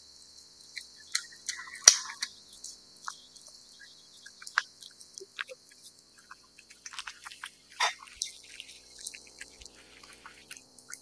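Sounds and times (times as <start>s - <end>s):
cat chewing and licking wet food: 0.6s - 11.0s.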